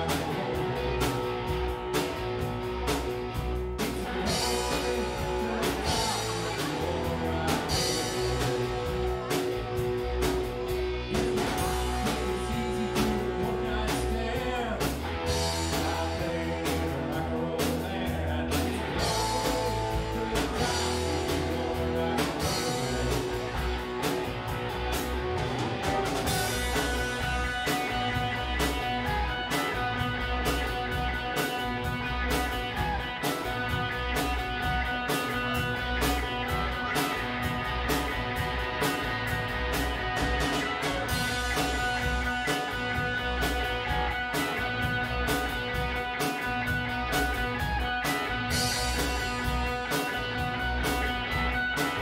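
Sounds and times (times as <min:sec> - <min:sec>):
bass: 0:00.0 - 0:52.0
drums playing a steady beat: 0:00.0 - 0:52.0
electric guitars: 0:00.0 - 0:52.0.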